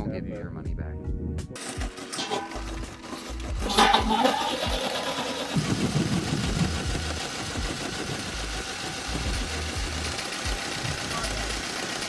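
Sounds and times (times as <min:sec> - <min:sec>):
saw blade grinding through wood: 0:01.6 - 0:12.0.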